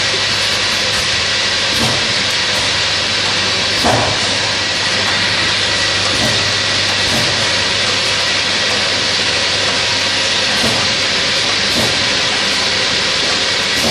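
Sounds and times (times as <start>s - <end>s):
filling machine hiss: 0.0s - 13.9s.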